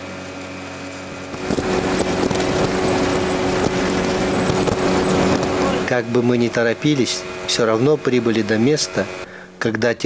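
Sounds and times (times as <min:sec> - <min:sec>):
outboard motor running: 0:00.0 - 0:09.6
high wavering whine: 0:00.4 - 0:09.3.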